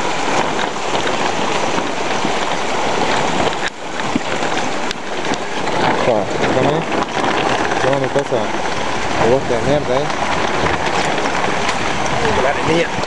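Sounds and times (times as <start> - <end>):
heavy rain pouring: 0.0 - 13.0
runoff water rushing along street: 0.0 - 13.0
water spouting from drain: 0.0 - 13.0.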